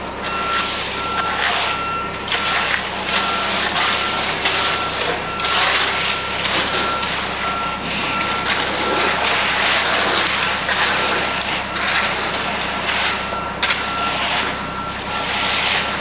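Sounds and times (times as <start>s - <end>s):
truck engine running: 0.0s - 16.0s
truck reversing alarm beeping: 0.0s - 16.0s.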